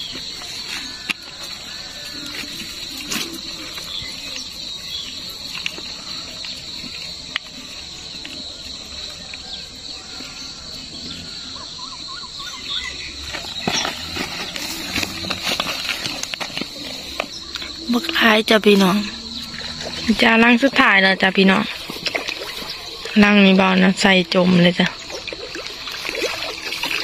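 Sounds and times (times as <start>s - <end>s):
insect chorus: 0.0s - 27.0s.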